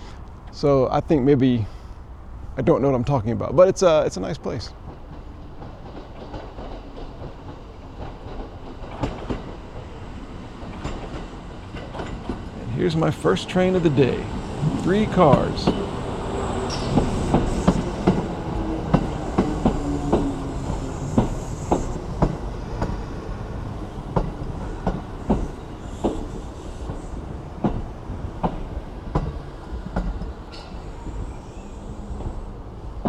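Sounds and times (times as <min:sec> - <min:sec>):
train rumble: 0:00.0 - 0:33.0
train wheels clacking over rail joints: 0:04.8 - 0:33.0.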